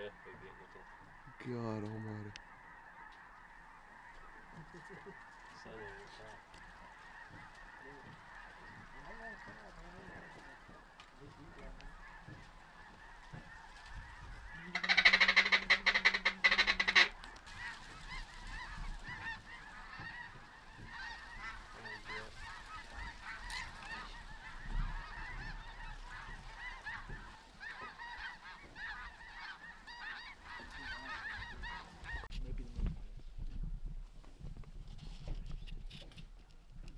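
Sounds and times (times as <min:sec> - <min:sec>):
flock of geese honking: 0:00.0 - 0:32.8
loud close pulsing goose call: 0:02.3 - 0:32.3.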